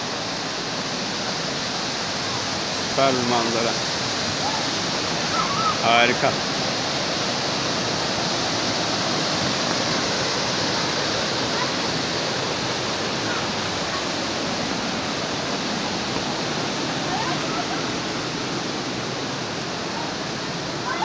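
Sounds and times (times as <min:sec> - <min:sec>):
waterfall rushing over rocks: 0:00.0 - 0:21.0.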